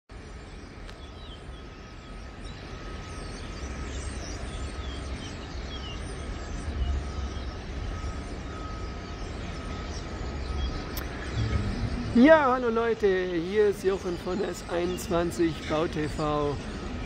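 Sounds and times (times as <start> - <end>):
flock of small birds chirping: 0.1 - 17.0
steady low rumble: 0.1 - 17.0.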